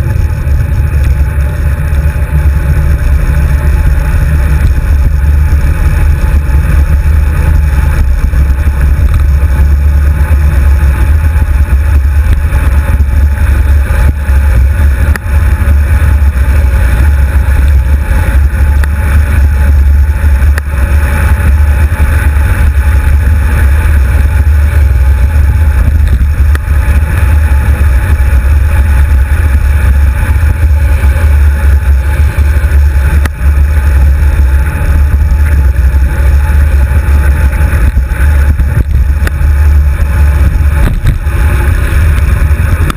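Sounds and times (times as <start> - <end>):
wind rumbling on microphone: 0.0 - 42.9.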